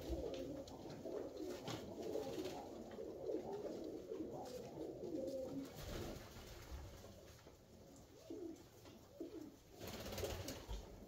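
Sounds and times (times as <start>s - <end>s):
pigeons cooing: 0.0s - 6.3s, 8.0s - 11.0s.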